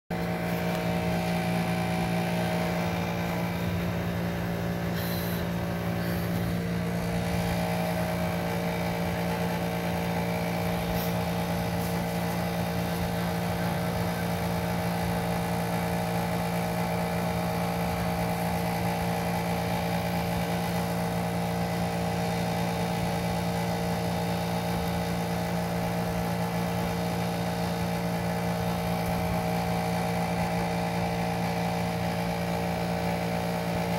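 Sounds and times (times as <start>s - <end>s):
motor humming: 0.1s - 33.9s.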